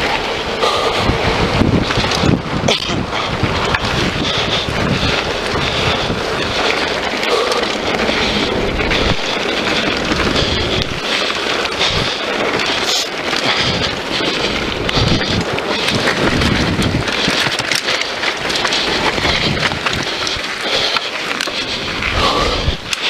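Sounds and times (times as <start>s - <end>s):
wind on microphone: 0.0s - 20.8s, 21.6s - 23.0s
mountain bike rattling on gravel: 0.0s - 23.0s
bike knocking over bumps: 1.5s - 21.5s.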